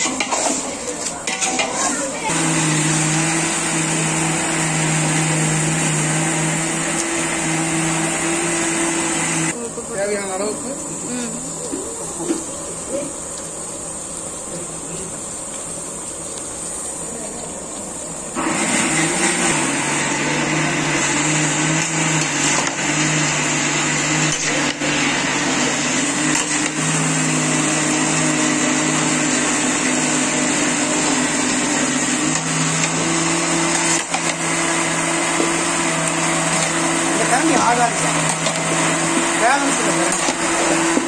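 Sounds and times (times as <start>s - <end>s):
electric motor humming and whining: 2.0s - 13.7s, 18.3s - 41.0s.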